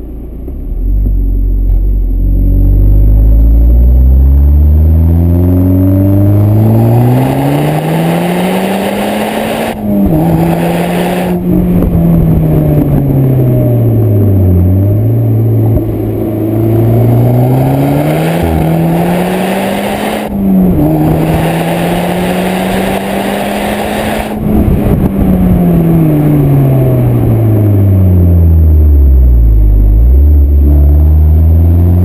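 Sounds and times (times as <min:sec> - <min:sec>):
car engine and exhaust revving: 0:00.0 - 0:32.0.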